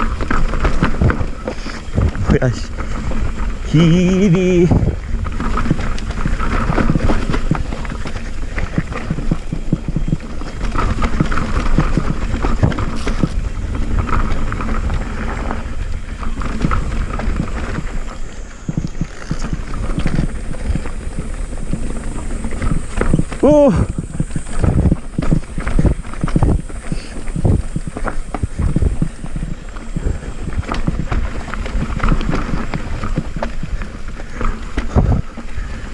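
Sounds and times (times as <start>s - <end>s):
bike rattling over rough ground: 0.0s - 35.9s
wind noise on microphone: 0.0s - 35.9s.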